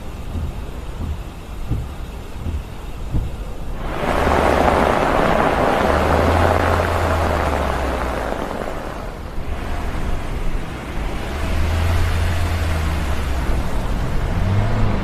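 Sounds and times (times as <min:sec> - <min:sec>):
car driving rumble: 0:00.0 - 0:15.0
loud steady rushing noise: 0:00.0 - 0:15.0.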